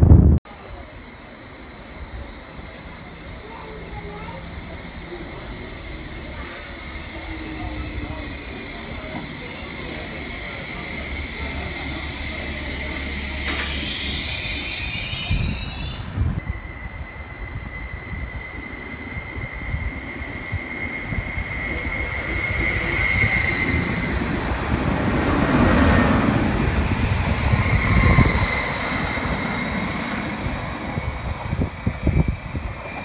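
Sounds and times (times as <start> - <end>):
train passing by: 0.1 - 33.0
high-pitched train whine: 0.5 - 33.0.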